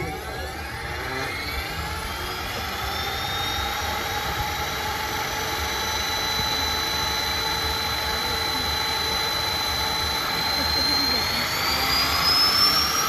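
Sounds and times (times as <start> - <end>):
turboprop engine spooling up: 0.0 - 13.0.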